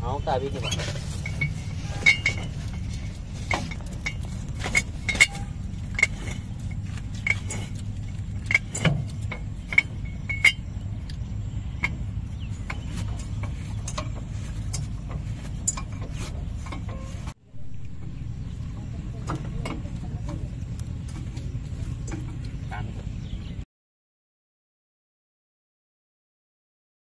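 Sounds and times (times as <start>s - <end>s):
low rumble: 0.0s - 23.6s.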